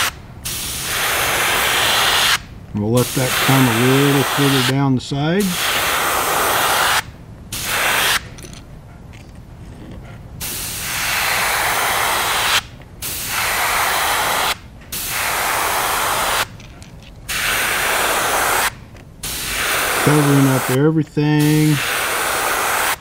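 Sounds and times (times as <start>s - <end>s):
airbrush spraying hiss: 0.0s - 8.3s, 10.4s - 16.6s, 17.3s - 23.0s.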